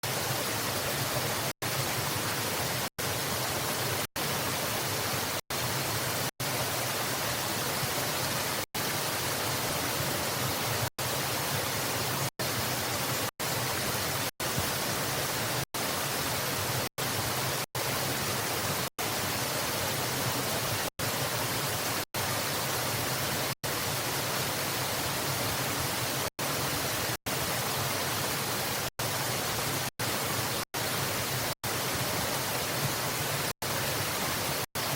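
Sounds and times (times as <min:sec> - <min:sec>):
waterfall rushing water: 0:00.0 - 0:34.9.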